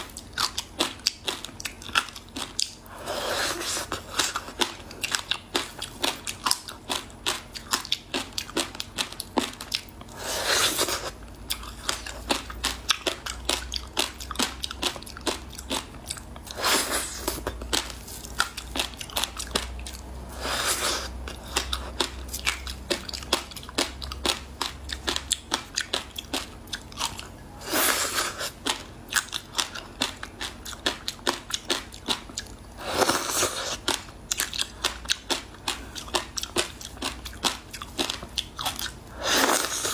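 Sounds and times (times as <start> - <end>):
ice being bitten and chewed: 0.0 - 39.9.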